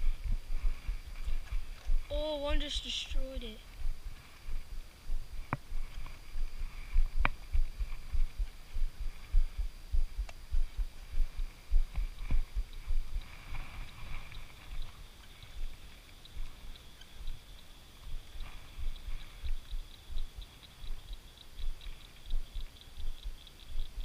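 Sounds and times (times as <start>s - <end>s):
faint high whine: 0.0s - 24.0s
light regular ticking: 0.0s - 24.0s.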